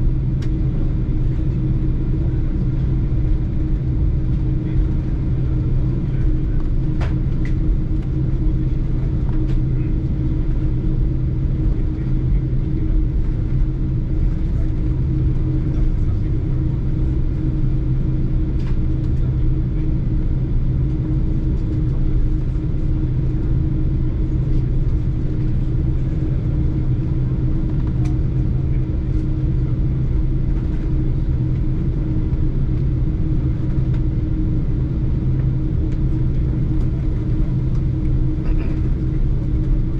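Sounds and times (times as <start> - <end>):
airplane cabin hum and rumble: 0.0 - 39.9.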